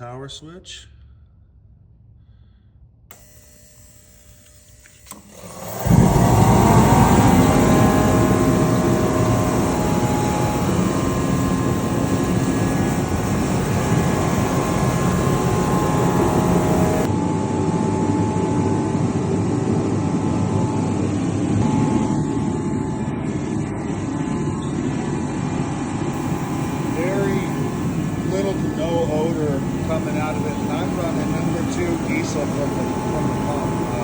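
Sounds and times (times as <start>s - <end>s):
faint hum: 0.0s - 34.0s
heater burner and fan roaring: 3.1s - 34.0s.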